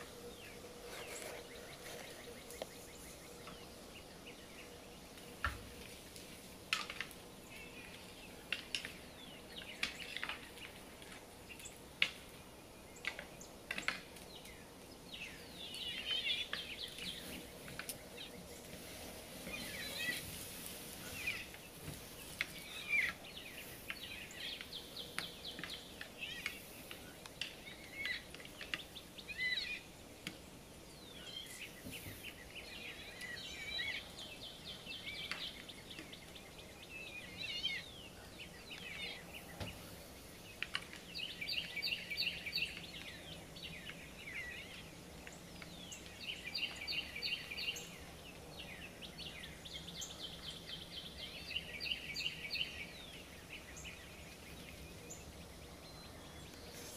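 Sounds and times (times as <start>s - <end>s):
faint background noise: 0.0s - 56.9s
songbirds chirping and trilling: 0.0s - 56.9s.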